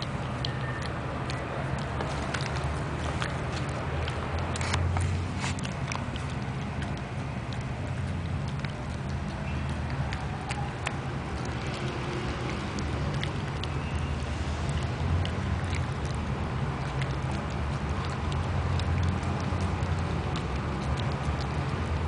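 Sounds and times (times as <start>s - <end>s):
dog crunching carrot: 0.0s - 22.0s
steady low hum: 0.0s - 22.0s.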